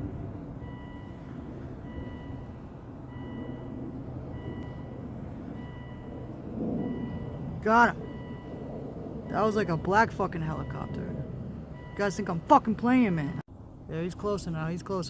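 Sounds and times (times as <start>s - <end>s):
distant helicopter rumble: 0.0s - 15.0s
reversing beeper: 0.6s - 13.4s.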